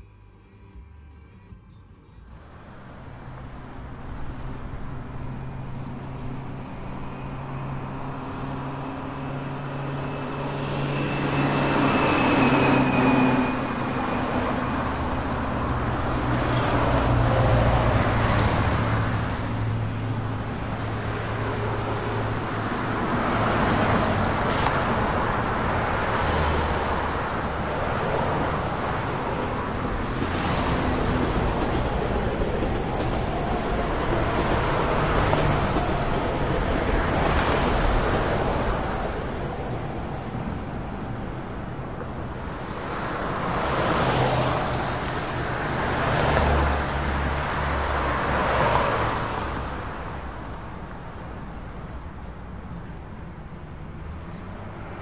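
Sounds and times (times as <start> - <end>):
tyre and road noise: 0.0 - 55.0.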